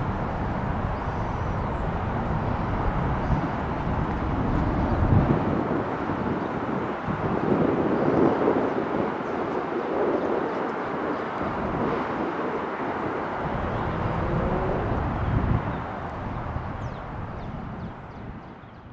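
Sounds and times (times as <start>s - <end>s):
jet airliner engines roaring: 0.0s - 17.8s.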